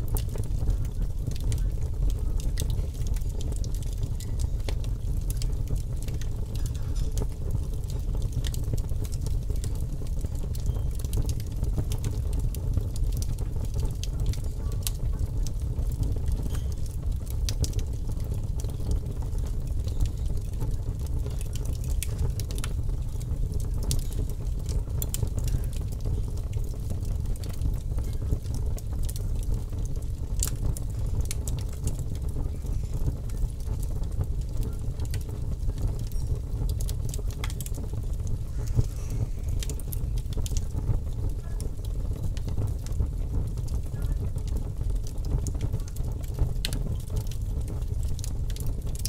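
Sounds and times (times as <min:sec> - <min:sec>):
fire crackling: 0:00.0 - 0:49.0.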